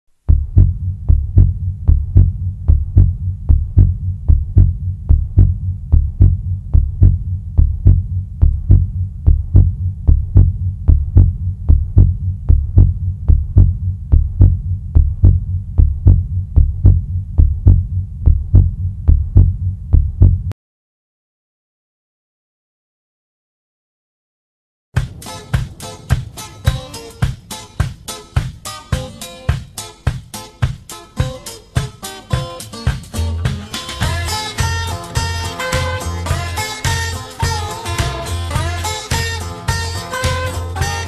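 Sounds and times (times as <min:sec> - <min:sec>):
heartbeat thumps: 0:00.1 - 0:20.6, 0:25.0 - 0:37.7.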